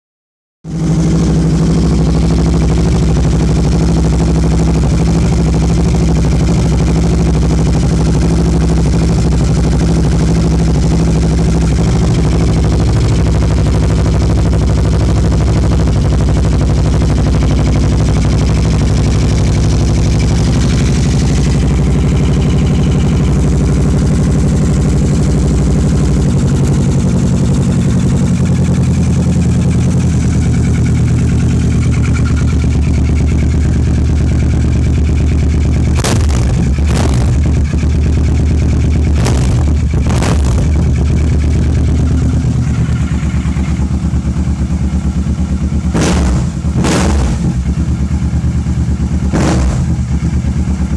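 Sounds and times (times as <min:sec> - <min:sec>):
motorcycle engine at low revs: 0:00.6 - 0:50.9.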